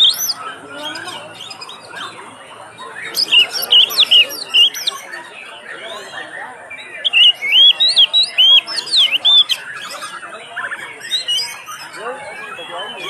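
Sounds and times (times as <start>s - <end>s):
background bird twittering: 0.0s - 13.0s
bird singing whistled notes: 0.0s - 13.0s.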